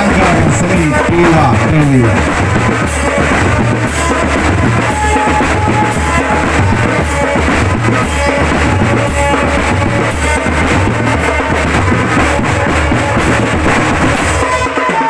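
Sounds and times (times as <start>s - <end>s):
bass drums and snares: 0.0s - 15.0s
held melody notes: 0.0s - 15.0s.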